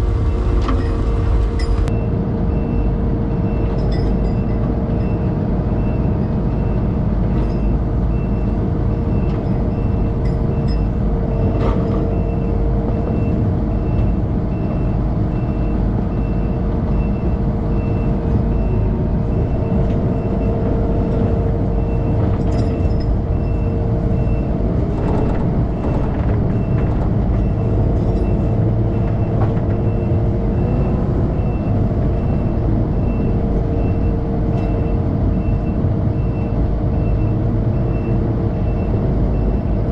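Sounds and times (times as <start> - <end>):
backup alarm beeping: 0.0 - 39.8
diesel engine under load: 0.0 - 39.9.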